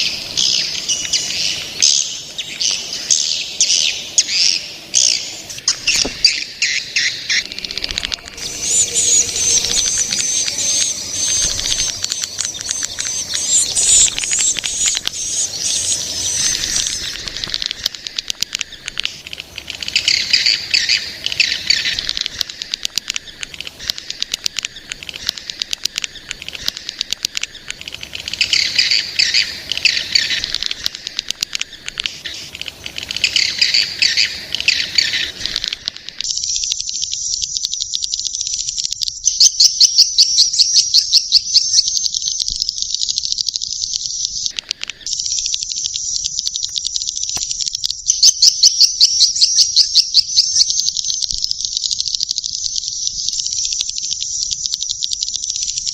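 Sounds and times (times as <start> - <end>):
swiftlets trilling and chirping: 0.0 - 55.9.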